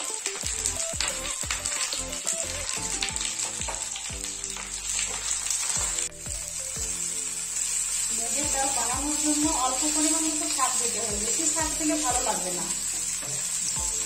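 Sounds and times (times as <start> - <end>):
leaves sizzling in frying pan: 0.0 - 14.0.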